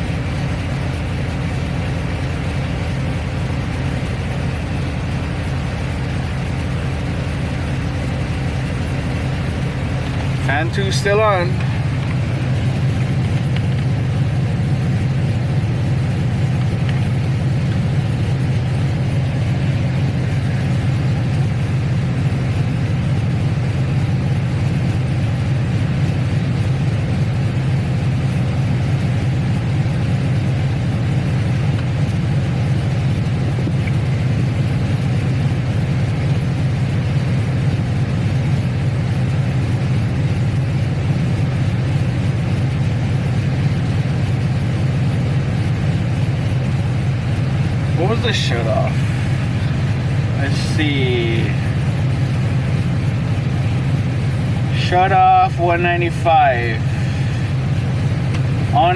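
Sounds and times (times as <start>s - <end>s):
car engine idling: 0.0s - 58.9s
electric radiator fans running: 0.0s - 58.9s.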